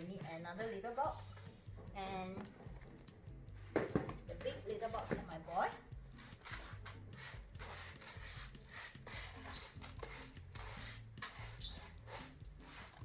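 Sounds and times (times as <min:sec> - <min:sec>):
faint background music bass: 0:00.0 - 0:13.0.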